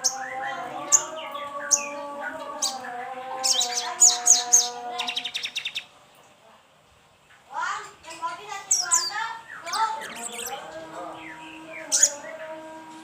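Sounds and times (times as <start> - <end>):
bird chirps and trill: 0.0 - 5.9, 7.8 - 12.6.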